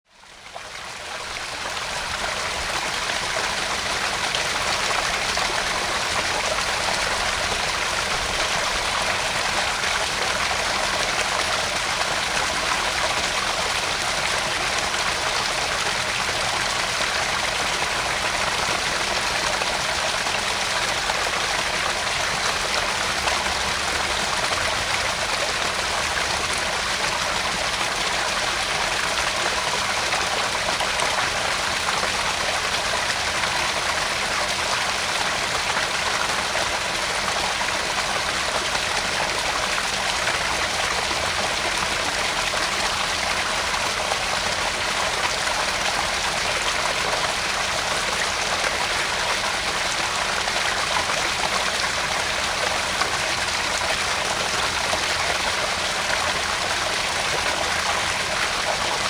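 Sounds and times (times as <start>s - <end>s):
water splashing into pond: 0.2s - 59.0s.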